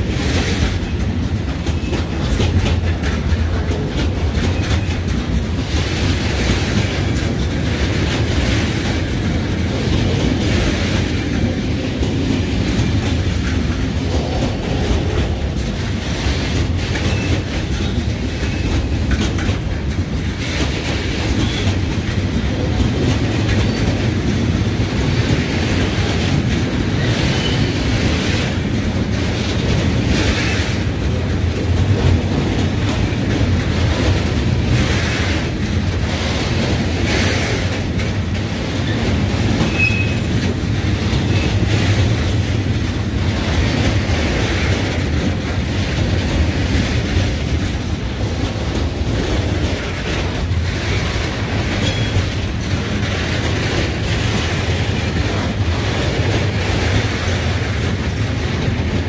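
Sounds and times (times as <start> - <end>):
freight train wagons rolling: 0.0 - 59.0
wheels clicking over rail joints: 0.0 - 59.0.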